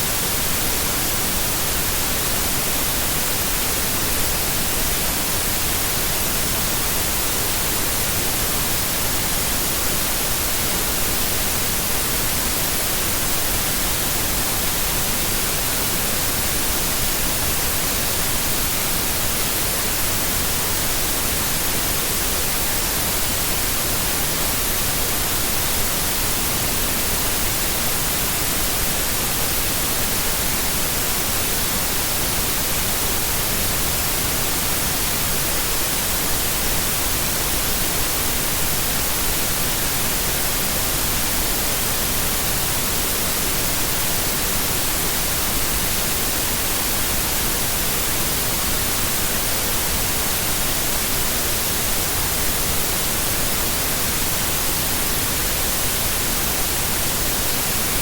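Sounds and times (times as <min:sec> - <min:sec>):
steady white noise hiss: 0:00.0 - 0:58.0.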